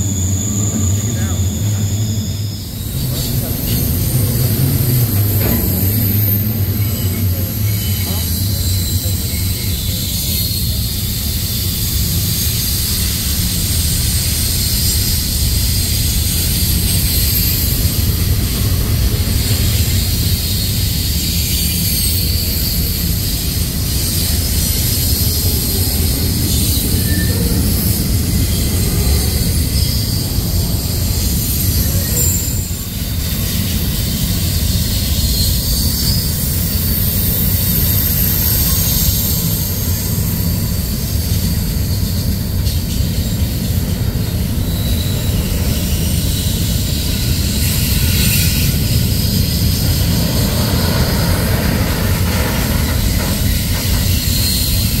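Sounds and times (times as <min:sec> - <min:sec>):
high-pitched wheel squeal: 0:00.0 - 0:55.0
steel wheels rumbling on rail: 0:00.0 - 0:55.0.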